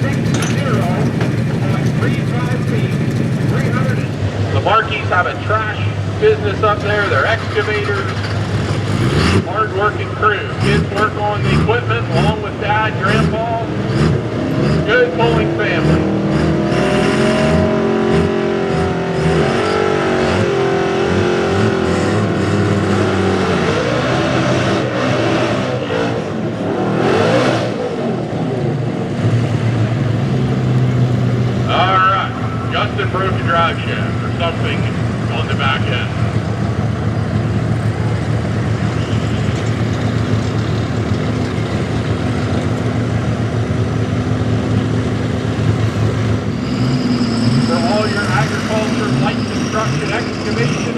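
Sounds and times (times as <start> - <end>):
truck engine at high revs: 0.0 - 50.9.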